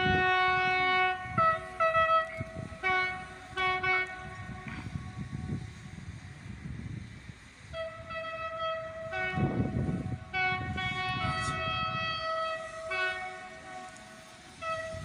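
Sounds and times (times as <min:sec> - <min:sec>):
locomotive horn blasts: 0:00.0 - 0:05.8, 0:07.7 - 0:15.0
low wind rumble: 0:00.0 - 0:15.0.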